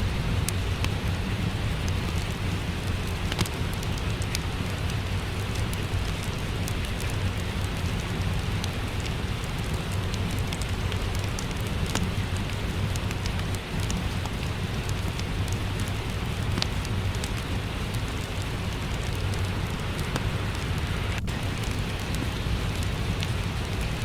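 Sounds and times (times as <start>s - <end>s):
rain falling: 0.0s - 24.0s
wood fire crackling: 0.0s - 24.0s.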